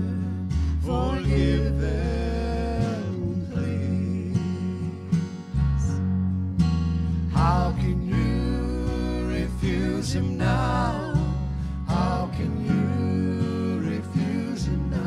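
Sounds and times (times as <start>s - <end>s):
person singing: 0.0s - 6.0s, 7.3s - 15.0s
electric bass line: 0.0s - 15.0s
strummed acoustic guitar: 0.0s - 15.0s.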